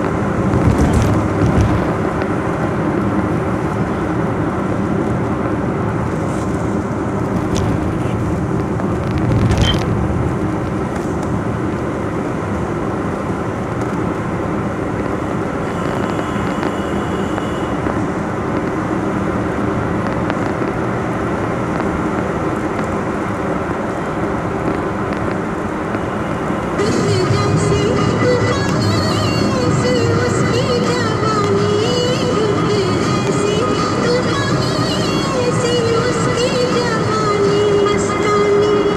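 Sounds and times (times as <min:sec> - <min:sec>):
vehicle engine and tyre rumble: 0:00.0 - 0:38.9.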